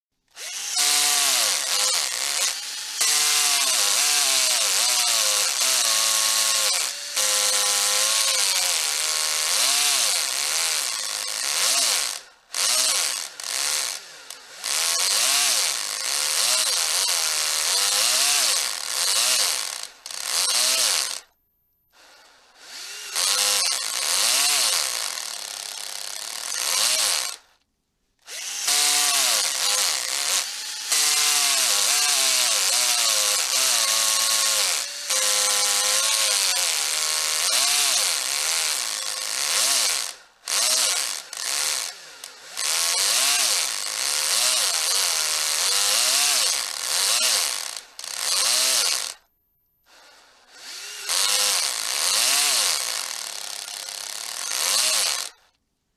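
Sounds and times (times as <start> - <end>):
electric drill boring into wood: 0.3 - 21.3, 22.0 - 27.5, 28.3 - 49.2, 49.9 - 55.4.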